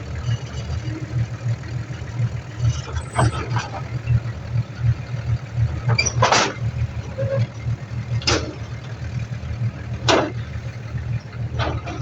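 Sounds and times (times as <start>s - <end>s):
diesel earthmover rumbling: 0.0s - 12.0s.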